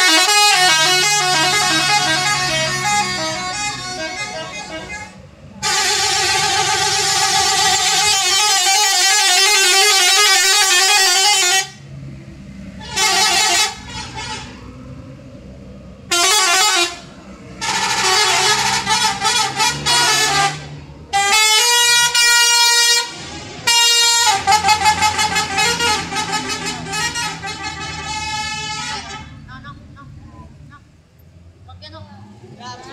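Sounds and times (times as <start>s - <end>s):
multi-tone musical bus horns: 0.0s - 12.0s, 12.7s - 15.0s, 16.0s - 30.9s
bus engine running: 0.0s - 32.9s.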